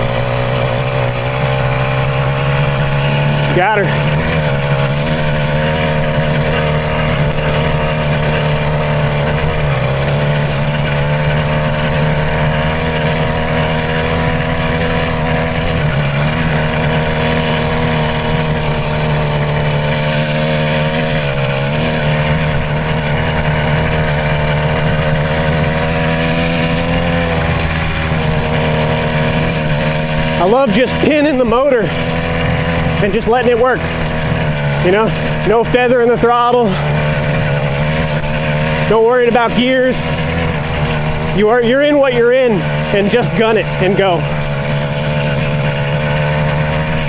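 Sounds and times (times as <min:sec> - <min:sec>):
two-stroke engine at full throttle: 0:00.0 - 0:47.0.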